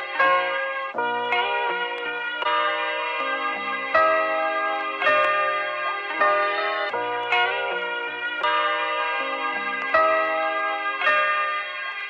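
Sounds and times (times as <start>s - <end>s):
bell-like struck notes: 0.0s - 12.0s.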